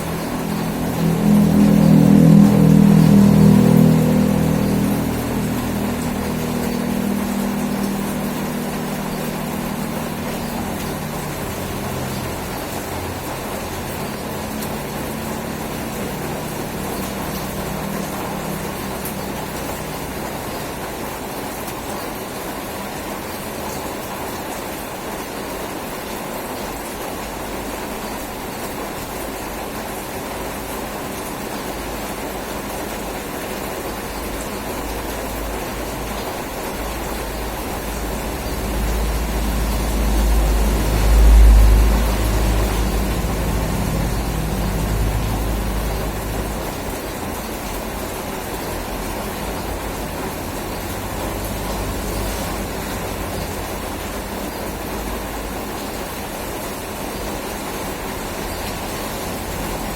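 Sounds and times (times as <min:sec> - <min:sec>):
low hum: 0:00.0 - 0:21.6, 0:30.7 - 0:59.9
steady rain falling: 0:00.0 - 0:59.9.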